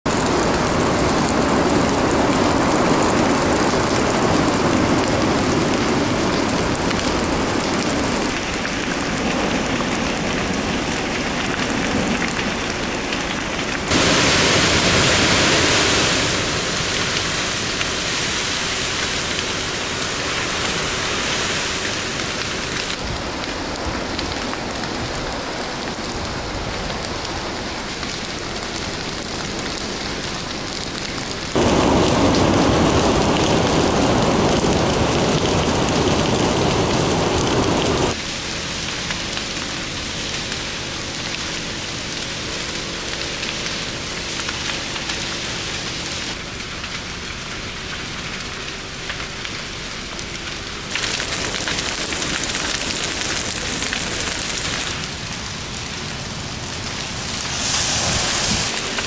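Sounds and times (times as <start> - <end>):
forest fire rushing: 0.0 - 59.0.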